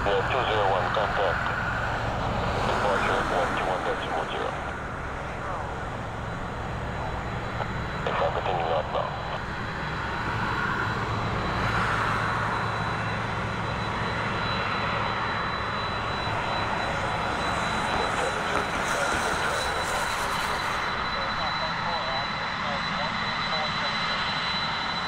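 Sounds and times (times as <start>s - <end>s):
jet engines rumbling and whining: 0.0s - 25.0s.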